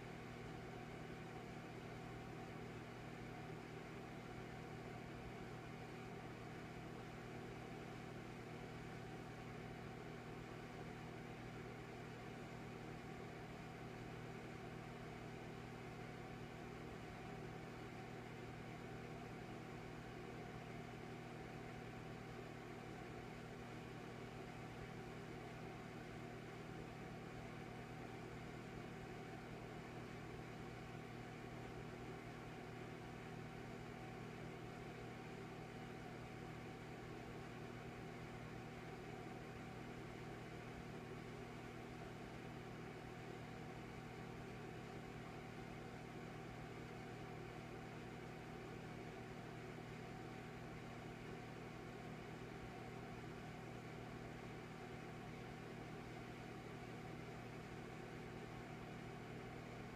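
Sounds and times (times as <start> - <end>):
electric fireplace humming: 0.0 - 59.9.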